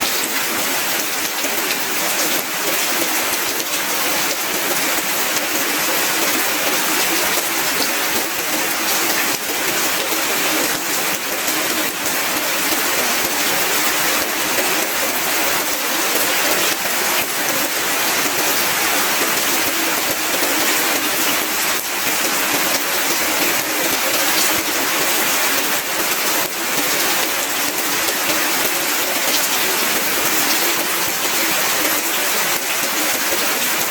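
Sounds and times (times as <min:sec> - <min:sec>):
heavy rain on roofs: 0:00.0 - 0:33.9.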